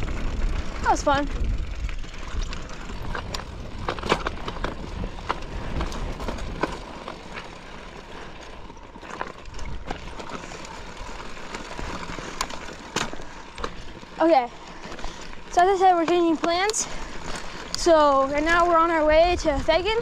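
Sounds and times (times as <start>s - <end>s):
bike clicks and rattles: 0.0s - 20.0s
bike tyres rumbling on dirt: 0.0s - 20.0s.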